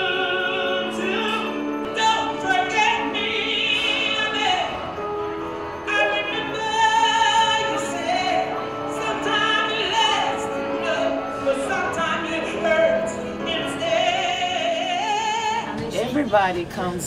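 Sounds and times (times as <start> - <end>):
woman singing soul vocal: 0.0 - 4.9, 5.9 - 16.2.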